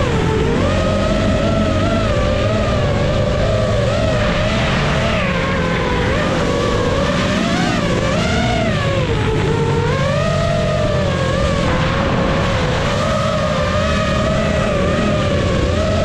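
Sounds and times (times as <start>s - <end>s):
drone propellers whining: 0.0s - 16.0s
low engine rumble: 0.0s - 16.0s.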